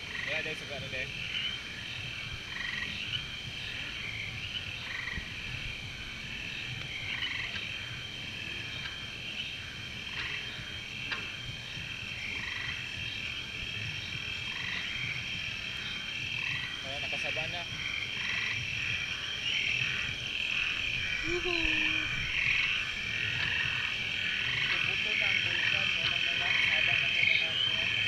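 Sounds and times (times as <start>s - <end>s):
frogs croaking: 0.0s - 28.0s.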